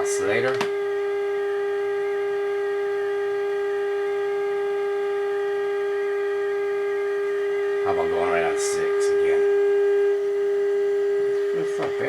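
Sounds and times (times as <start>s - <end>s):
steady test tone from radio speaker: 0.0s - 12.0s.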